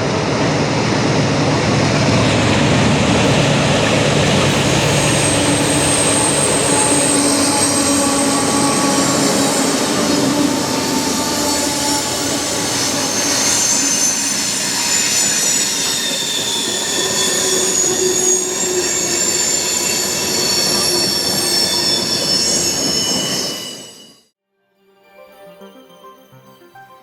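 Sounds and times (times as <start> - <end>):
train cars rumbling: 0.0 - 24.1
train wheels squealing: 2.0 - 24.3.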